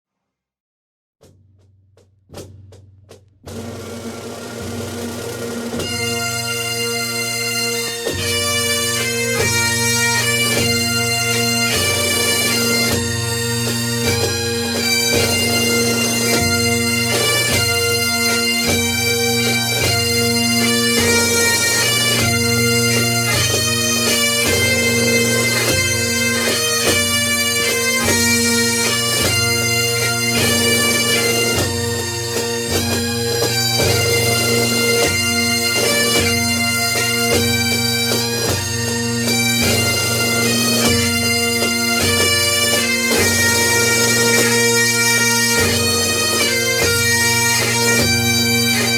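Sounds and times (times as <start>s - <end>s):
wind instrument melody: 5.6s - 48.9s.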